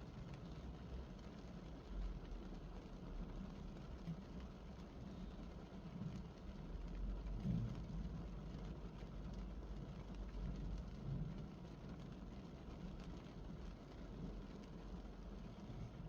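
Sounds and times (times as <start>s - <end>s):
rain on a car roof: 0.0s - 16.0s.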